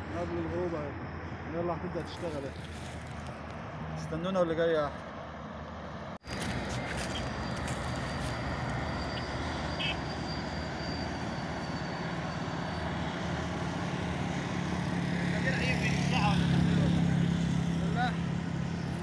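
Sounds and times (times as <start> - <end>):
motor traffic: 0.0 - 19.0.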